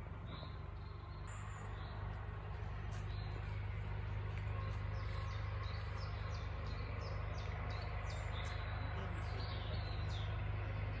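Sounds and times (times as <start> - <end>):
steady low hum: 0.0 - 11.0
small bird chirping: 0.2 - 10.4.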